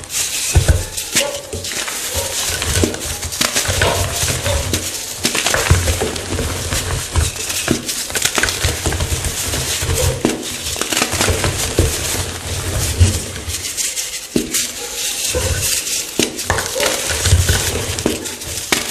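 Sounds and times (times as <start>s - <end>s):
chalk blocks crunching: 0.0s - 18.9s.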